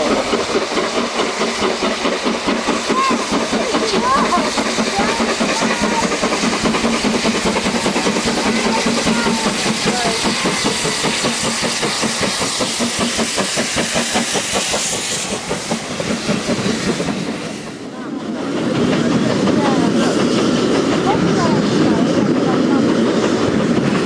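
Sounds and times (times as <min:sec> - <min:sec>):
steam hiss: 0:00.0 - 0:24.0
steam locomotive exhaust beats: 0:00.0 - 0:24.0
train wheels clicking on rail joints: 0:00.0 - 0:24.0.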